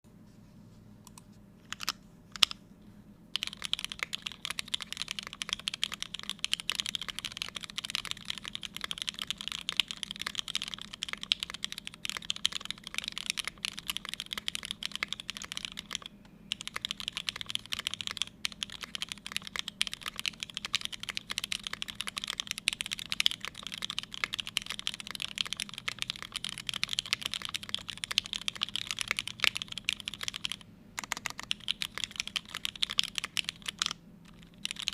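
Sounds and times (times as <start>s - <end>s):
mechanical keyboard typing: 1.7s - 2.6s, 3.4s - 34.9s.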